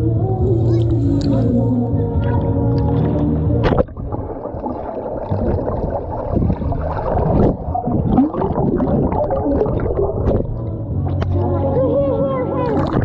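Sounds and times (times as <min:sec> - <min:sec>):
muffled wavering tones: 0:00.0 - 0:13.0
water gurgling and sloshing: 0:00.4 - 0:13.0.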